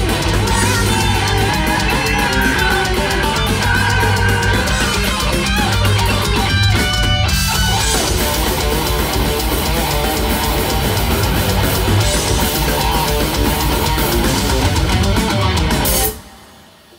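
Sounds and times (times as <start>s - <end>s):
heavy metal band playing live: 0.0s - 16.9s.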